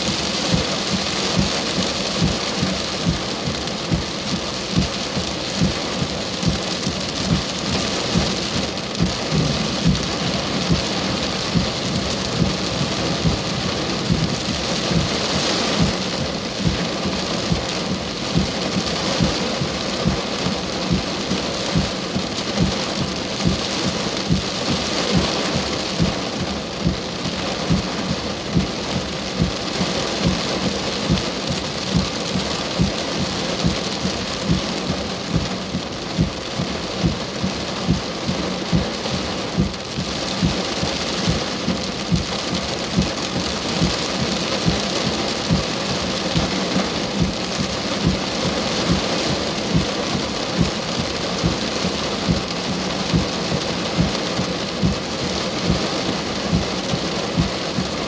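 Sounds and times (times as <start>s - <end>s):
heavy rain: 0.0s - 58.0s
raindrops thudding on hard surface: 0.0s - 58.0s.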